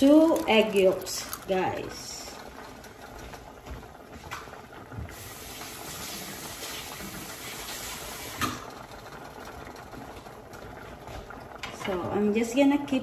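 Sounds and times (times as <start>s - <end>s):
soup boiling: 0.0s - 13.0s.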